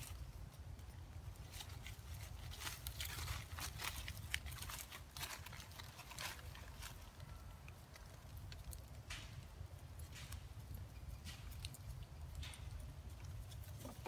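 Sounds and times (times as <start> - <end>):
leaves and twigs crackling: 0.0 - 14.0.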